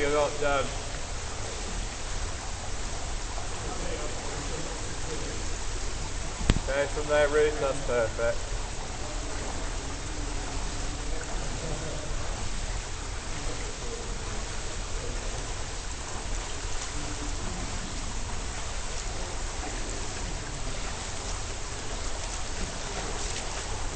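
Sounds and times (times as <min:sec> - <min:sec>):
swimmer splashes and clicks: 0:00.0 - 0:07.2, 0:08.5 - 0:23.9.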